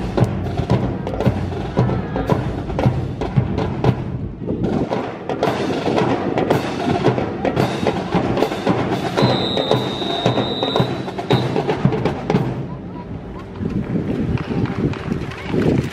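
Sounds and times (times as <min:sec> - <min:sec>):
music: 0:00.0 - 0:15.9.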